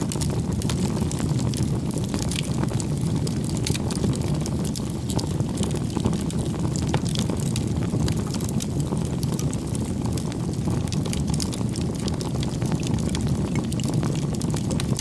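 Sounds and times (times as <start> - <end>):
burning wood crackling and popping: 0.0 - 15.0
campfire flames rumbling: 0.0 - 15.0.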